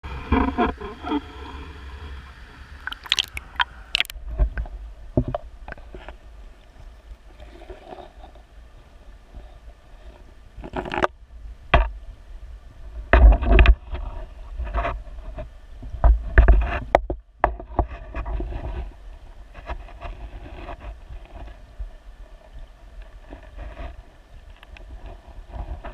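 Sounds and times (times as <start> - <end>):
underwater creek water: 0.0 - 25.9.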